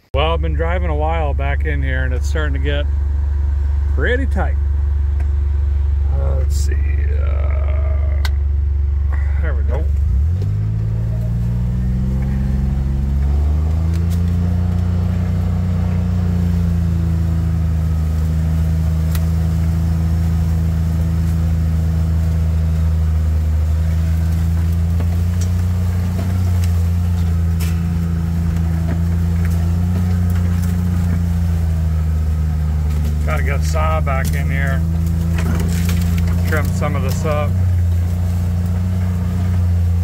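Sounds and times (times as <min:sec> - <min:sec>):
utility vehicle engine running: 0:00.0 - 0:40.0.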